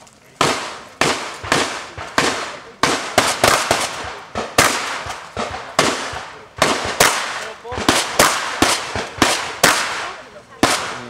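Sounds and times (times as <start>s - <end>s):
shotgun shots: 0.4s - 11.0s.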